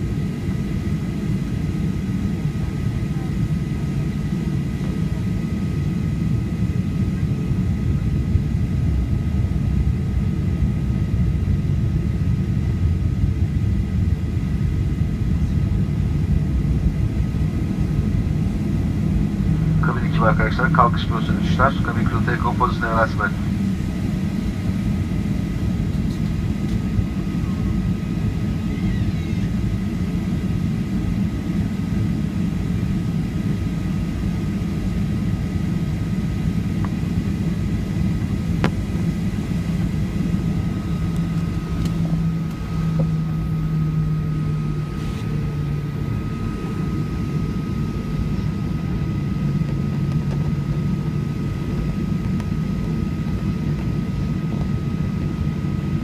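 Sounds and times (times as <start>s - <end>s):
jet engines rumbling in cabin: 0.0s - 56.0s
thin high engine whine: 0.0s - 56.0s.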